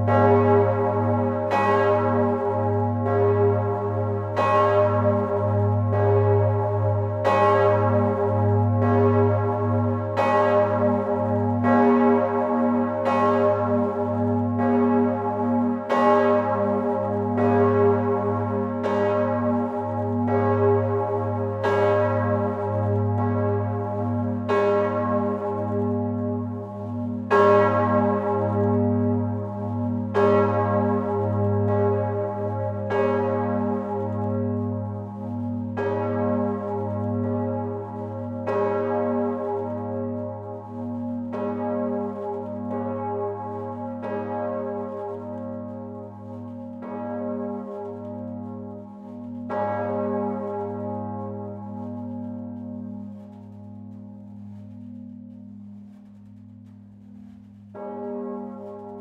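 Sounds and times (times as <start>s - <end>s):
church bell ringing: 0.0s - 59.0s.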